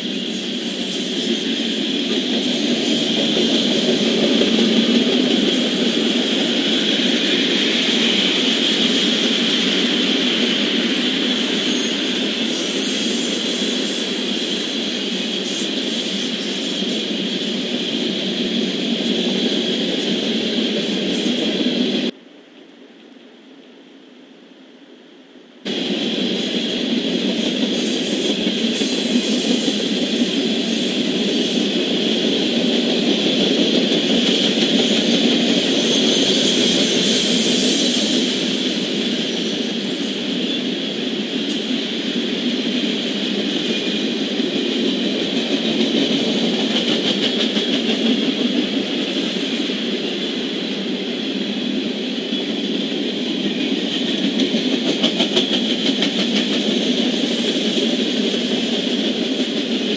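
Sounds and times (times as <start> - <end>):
freight train rumbling past: 0.0 - 22.2, 25.6 - 59.9.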